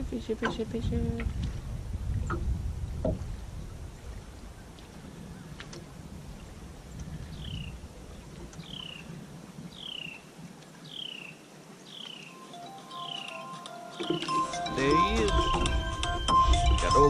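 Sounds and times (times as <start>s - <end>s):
light wind: 0.0s - 17.0s
water noise: 0.0s - 17.0s.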